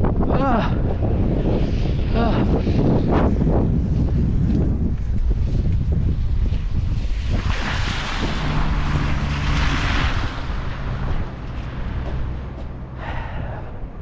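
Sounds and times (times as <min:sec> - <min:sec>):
low engine hum: 0:00.0 - 0:14.0
wind buffeting microphone: 0:00.0 - 0:14.0.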